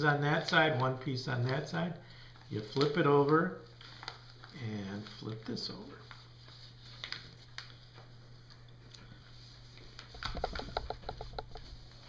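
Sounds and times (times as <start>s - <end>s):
paper rustling: 0.3s - 12.0s.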